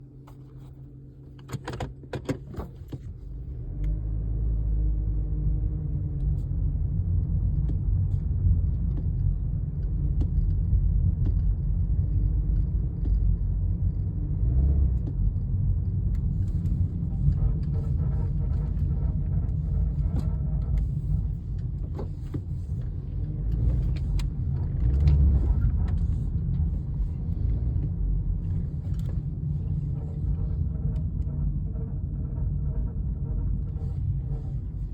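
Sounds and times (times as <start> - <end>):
car engine rumble: 0.0 - 34.9.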